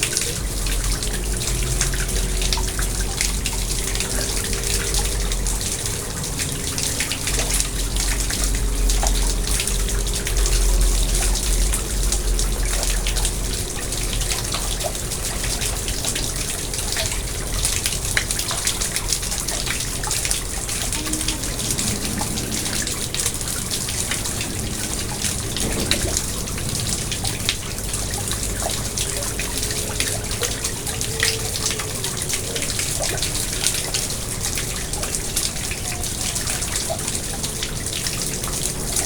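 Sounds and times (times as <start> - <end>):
pond water splashing and trickling: 0.0 - 39.0.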